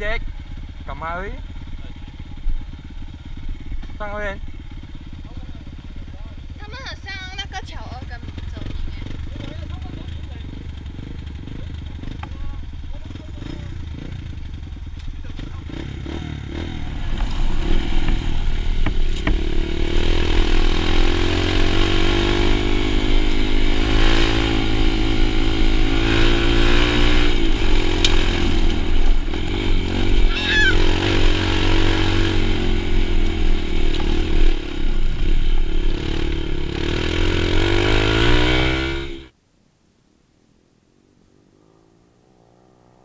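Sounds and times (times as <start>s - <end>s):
dirt bike engine: 0.0s - 39.4s, 40.9s - 43.0s.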